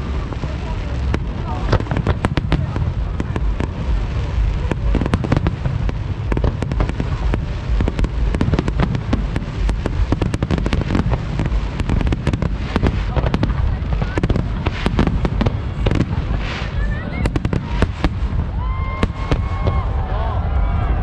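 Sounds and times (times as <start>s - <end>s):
fireworks bangs and crackles: 0.0s - 21.0s
steady low rumble: 0.0s - 21.0s.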